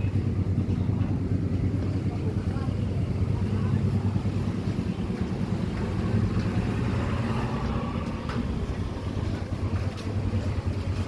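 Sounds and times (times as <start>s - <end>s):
ferry engines humming: 0.0s - 11.0s.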